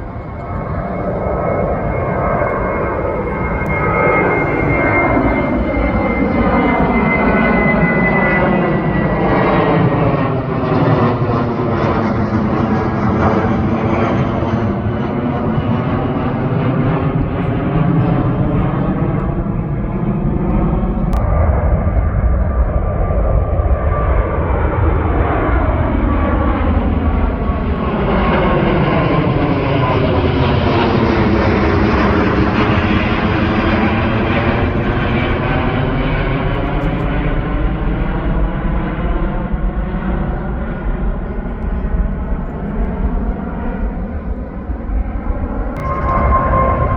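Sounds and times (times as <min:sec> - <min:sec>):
jet engines passing close: 0:00.0 - 0:46.9.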